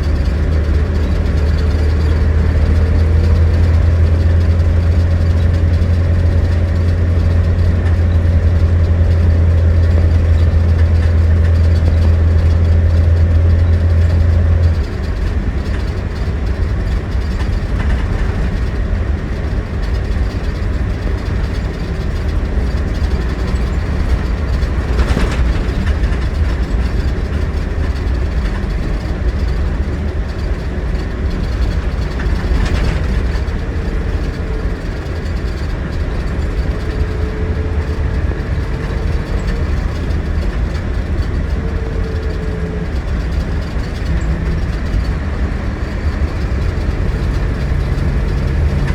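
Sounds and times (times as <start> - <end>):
diesel engine drone: 0.0 - 48.9.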